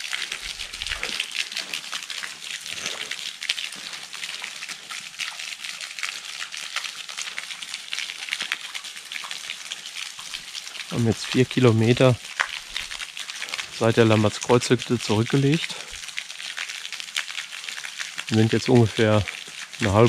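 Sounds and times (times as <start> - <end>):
fountain splashing into basin: 0.0 - 20.0
rain pattering: 0.0 - 20.0.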